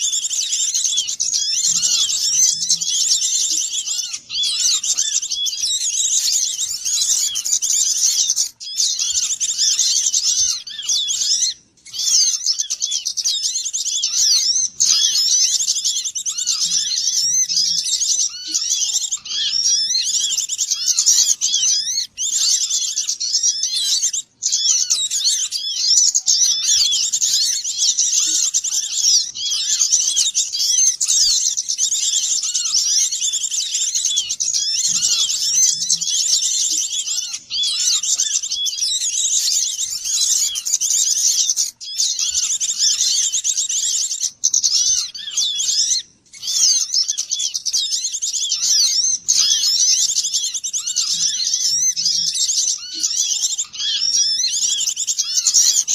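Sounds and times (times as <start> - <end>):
songbirds twittering and chirping: 0.0 - 55.9.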